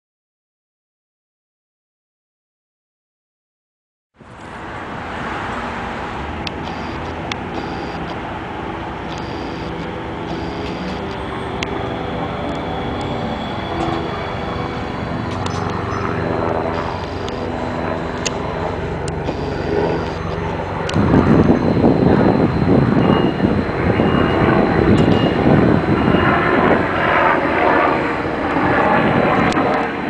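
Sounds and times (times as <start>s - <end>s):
light rail vehicle humming: 4.2s - 29.8s.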